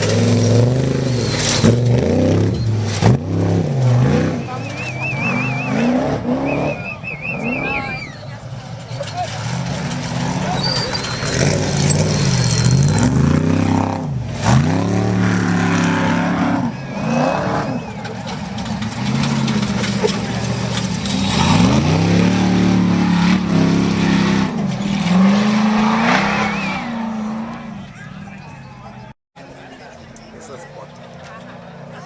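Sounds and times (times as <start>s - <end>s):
truck engines revving past: 0.0s - 32.0s.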